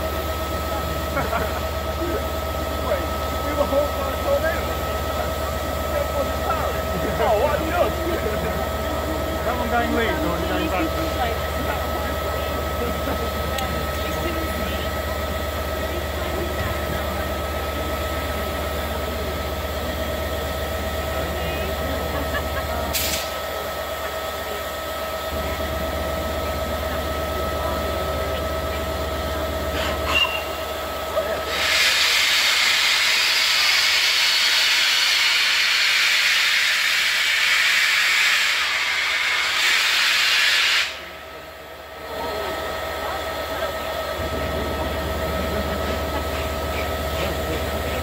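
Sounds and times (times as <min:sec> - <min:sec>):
steady background hum: 0:00.0 - 0:31.7, 0:38.0 - 0:48.0
steam hissing loudly: 0:00.0 - 0:48.0.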